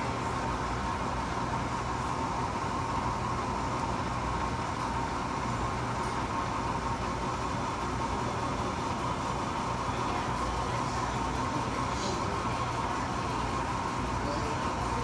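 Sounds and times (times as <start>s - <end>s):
laser engraver humming and whining: 0.0s - 15.0s.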